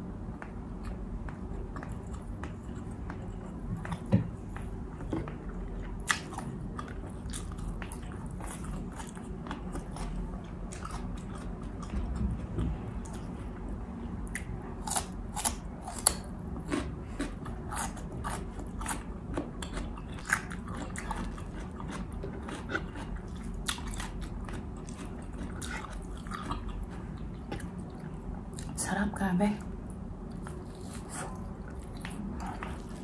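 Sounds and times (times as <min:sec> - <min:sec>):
person chewing food: 0:00.3 - 0:28.8, 0:29.9 - 0:33.0.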